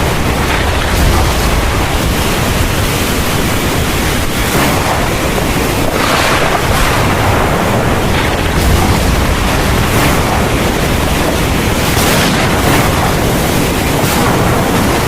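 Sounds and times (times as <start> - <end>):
deep thunder rumble: 0.0 - 15.0
heavy rain pouring: 0.0 - 15.0.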